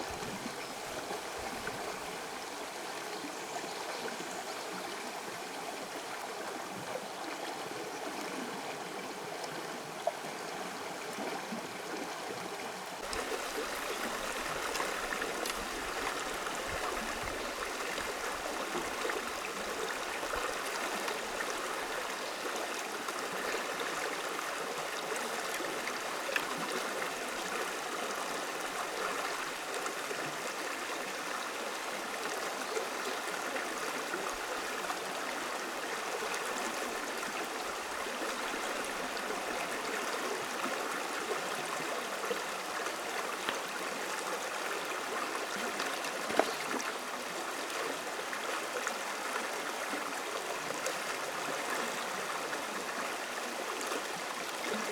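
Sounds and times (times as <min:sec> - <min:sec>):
stream water rushing: 0:05.0 - 0:54.9.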